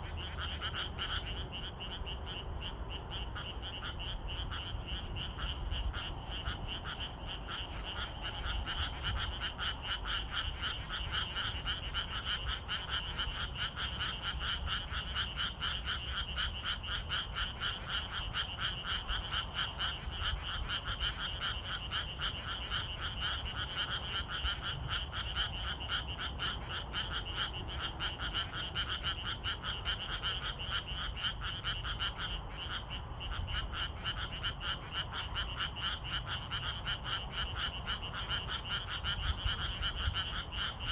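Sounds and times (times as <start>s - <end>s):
frogs croaking in chorus: 0.0s - 40.9s.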